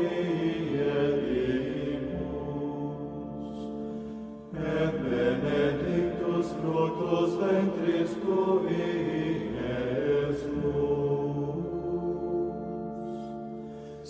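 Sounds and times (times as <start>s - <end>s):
low drone: 0.0s - 14.0s
slow chanted singing: 0.0s - 14.0s.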